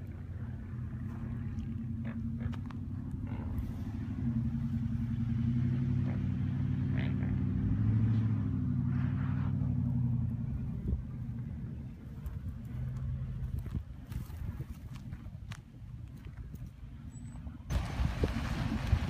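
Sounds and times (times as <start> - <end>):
engine running under load: 0.0 - 15.0, 17.0 - 19.0.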